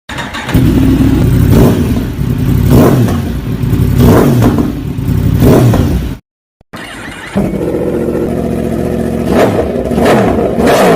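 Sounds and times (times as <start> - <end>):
motorcycle engine revving: 0.1 - 6.2, 6.8 - 10.9.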